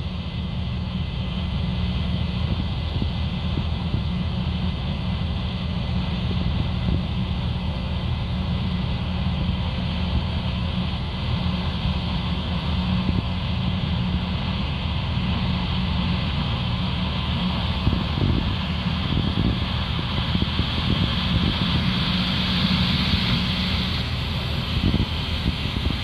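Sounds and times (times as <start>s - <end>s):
combine harvester drone: 0.0s - 26.0s.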